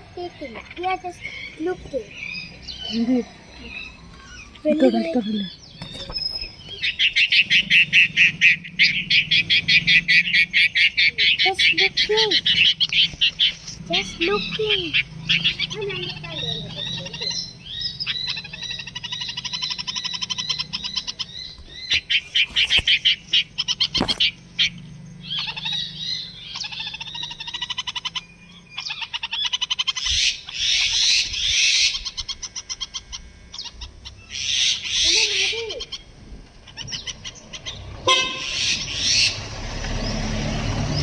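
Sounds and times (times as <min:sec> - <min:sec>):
birds chattering: 0:00.0 - 0:41.0.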